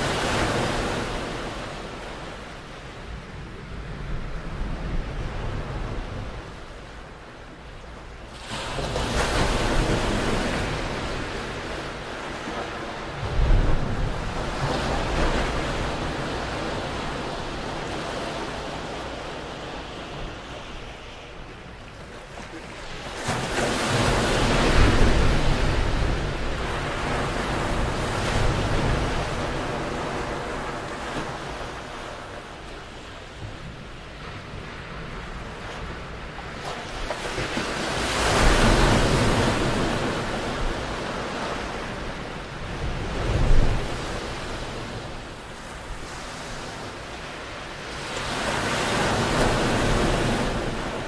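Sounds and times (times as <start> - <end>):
waves breaking on beach: 0.0 - 6.7, 8.3 - 51.0.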